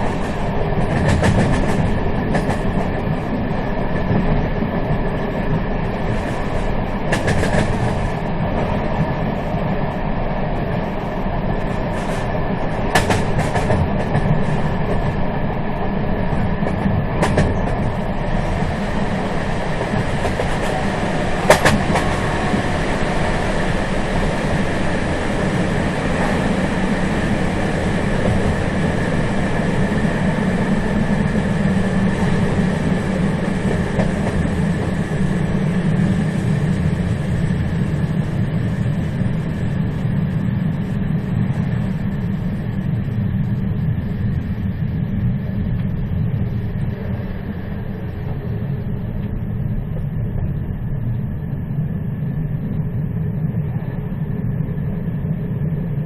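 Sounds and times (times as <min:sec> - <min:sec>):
train rumbling and rattling: 0:00.0 - 0:56.0.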